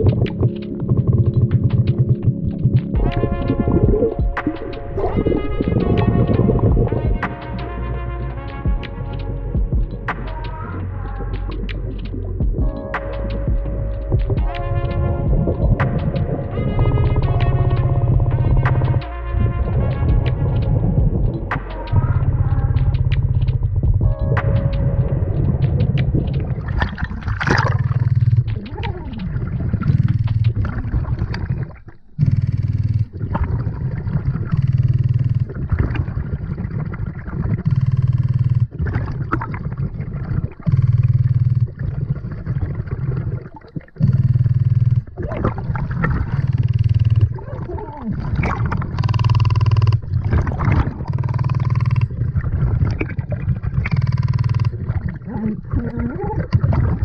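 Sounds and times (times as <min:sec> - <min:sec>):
exhaled bubbles rumbling underwater: 0:00.0 - 0:57.0.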